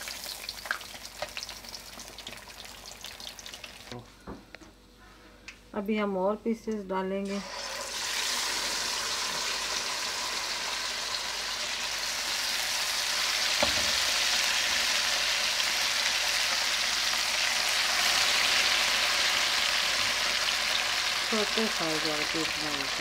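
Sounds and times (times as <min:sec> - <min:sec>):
fish deep-frying in oil: 0:00.0 - 0:04.0, 0:07.4 - 0:23.0.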